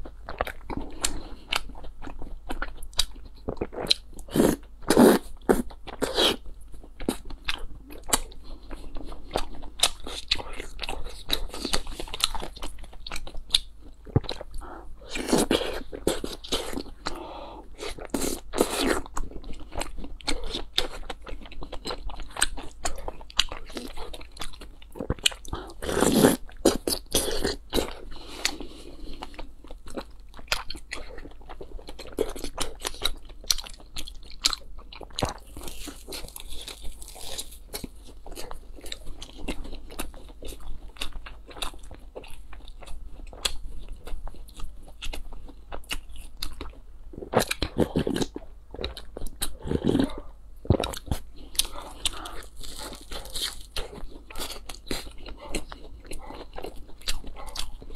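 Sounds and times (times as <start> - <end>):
person chewing crisp bread: 0.0 - 57.9.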